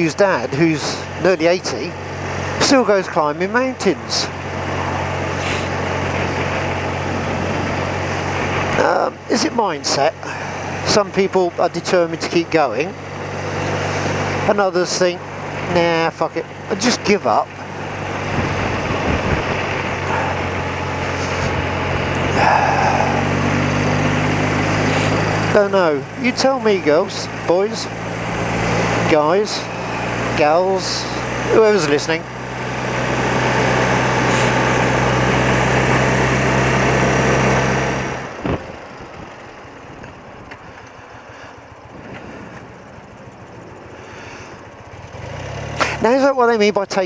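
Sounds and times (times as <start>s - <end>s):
motorcycle engine running: 0.0s - 47.0s
road and wind noise: 0.0s - 47.0s.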